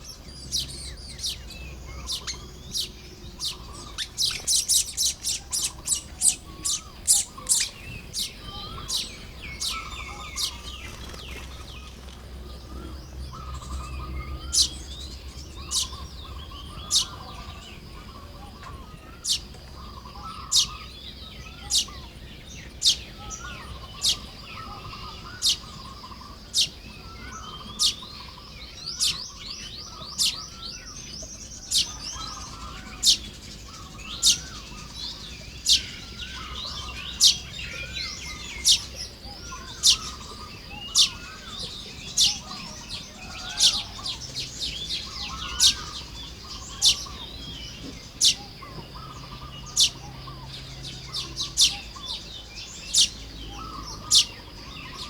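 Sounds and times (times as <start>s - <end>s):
birds calling with sharp chips: 0.0s - 55.0s
soft wavering bird chatter: 0.0s - 55.0s.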